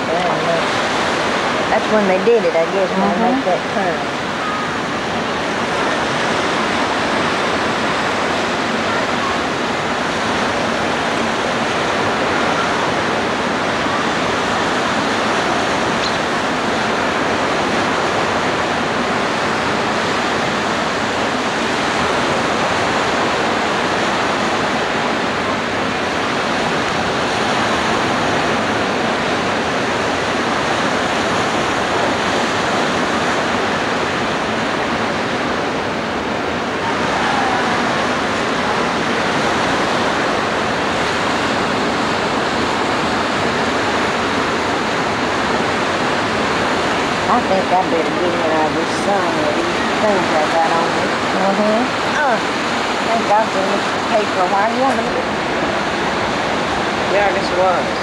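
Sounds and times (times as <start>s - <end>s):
beach surf: 0.0s - 58.0s
wind: 0.0s - 58.0s.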